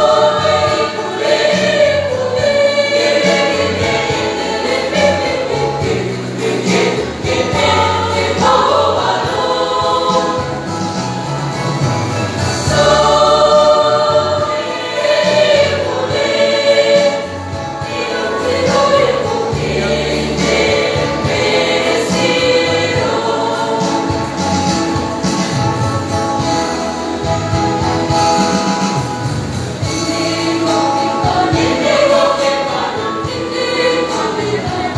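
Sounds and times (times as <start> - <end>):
mixed choir singing: 0.0 - 34.9.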